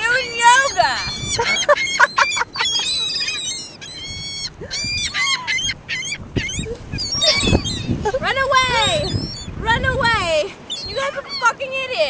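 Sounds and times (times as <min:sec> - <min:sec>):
seagulls calling: 0:00.0 - 0:12.0.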